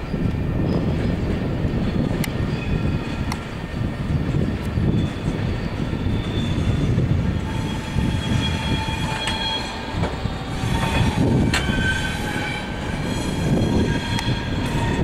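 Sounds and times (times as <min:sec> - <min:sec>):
train wheels rumbling on track: 0:00.0 - 0:15.0
faint high wheel squeal: 0:01.8 - 0:15.0.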